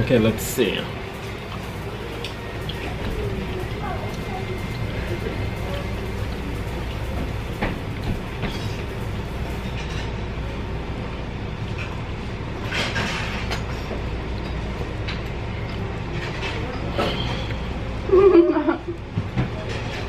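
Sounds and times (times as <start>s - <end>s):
restaurant background rumble: 0.0s - 20.0s.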